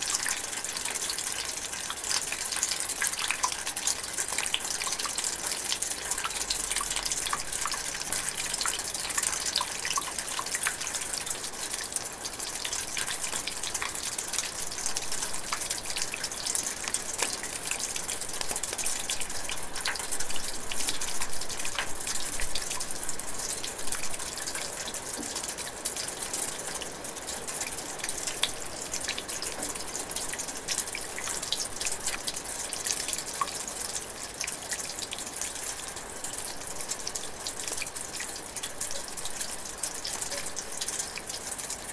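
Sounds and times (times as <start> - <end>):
light rain drizzling: 0.0 - 41.9
raindrops dripping: 0.0 - 41.9.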